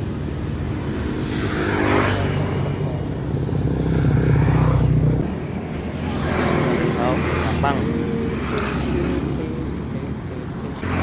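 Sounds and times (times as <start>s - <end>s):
vehicle engines passing: 0.0s - 11.0s.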